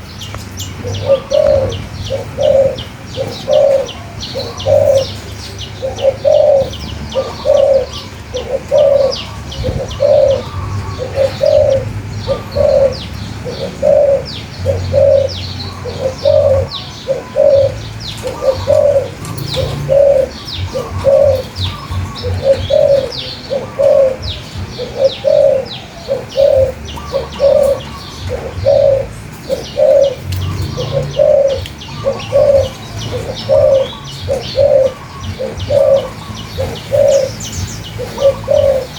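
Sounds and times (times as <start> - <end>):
dove cooing: 0.0 - 38.9
small songbirds chirping: 0.0 - 38.9.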